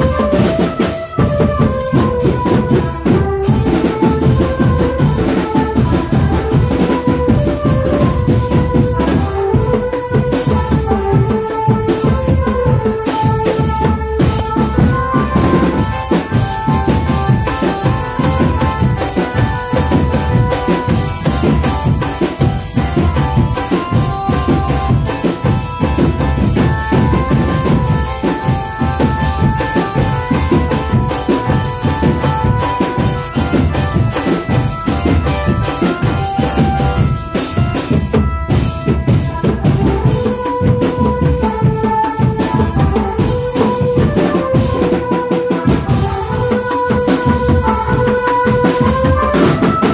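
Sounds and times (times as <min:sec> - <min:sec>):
fast bass and snare drumming: 0:00.0 - 0:49.9
melody over drums: 0:00.0 - 0:49.9.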